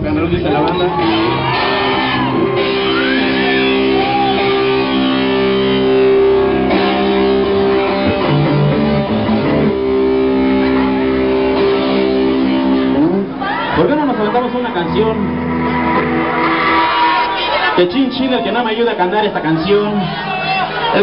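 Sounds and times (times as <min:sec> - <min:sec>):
electric guitar ringing chords: 0:00.6 - 0:18.4.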